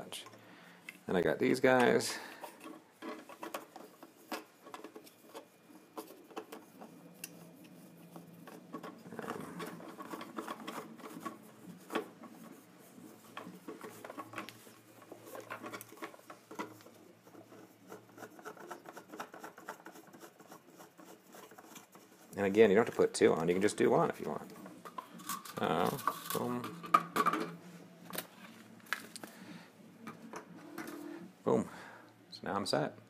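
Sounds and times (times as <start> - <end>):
plastic parts clicking and rubbing: 1.7 - 31.1.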